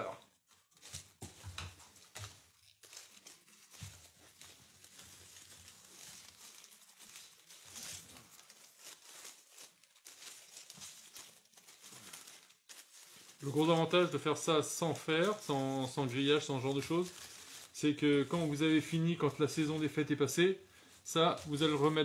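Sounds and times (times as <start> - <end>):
ivy leaves rustling and crackling: 1.9 - 22.0.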